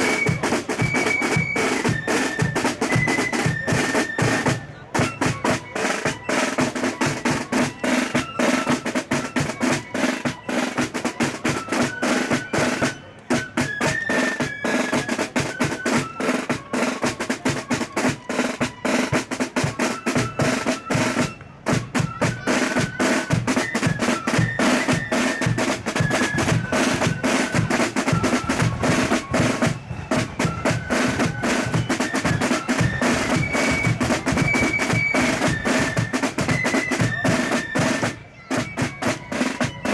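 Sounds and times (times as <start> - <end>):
marching band playing: 0.0 - 39.9
snare drums rolling: 0.0 - 39.9.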